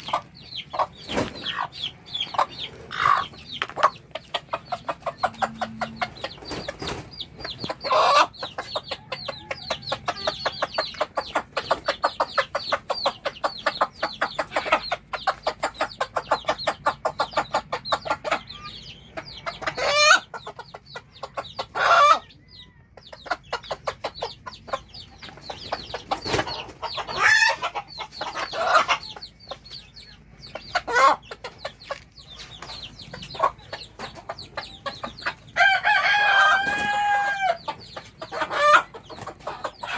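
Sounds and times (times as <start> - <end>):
hen clucking rapidly: 0.0 - 39.9.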